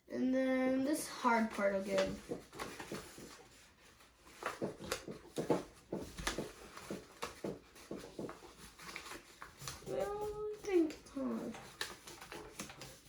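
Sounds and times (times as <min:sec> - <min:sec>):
paper being folded and creased: 0:00.7 - 0:13.0.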